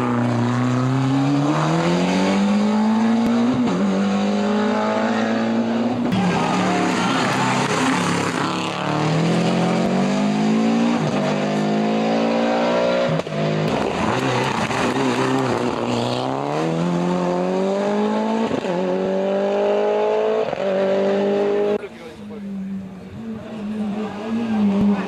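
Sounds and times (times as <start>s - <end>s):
rally car engine accelerating: 0.0s - 25.0s.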